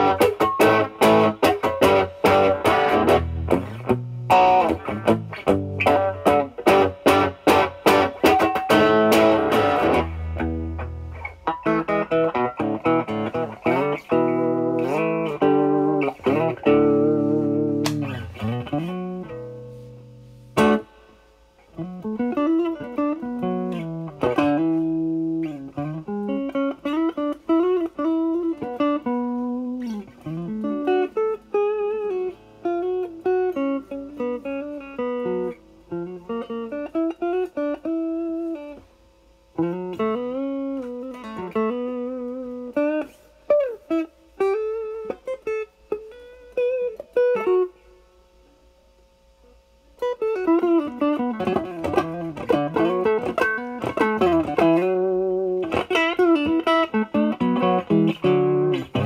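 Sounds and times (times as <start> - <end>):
distorted electric guitar chord: 0.0 - 38.9, 50.0 - 59.0
electric guitar lead phrases: 0.0 - 59.0.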